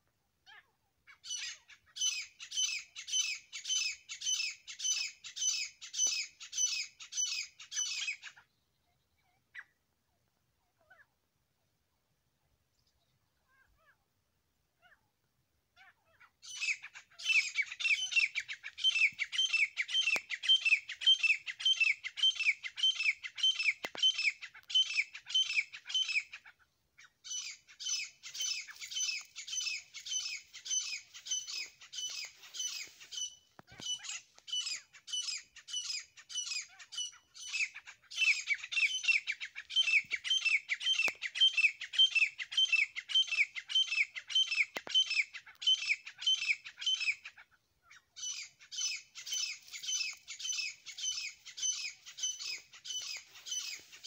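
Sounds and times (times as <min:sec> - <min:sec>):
francolin calling: 0:01.1 - 0:09.8, 0:15.8 - 0:54.0.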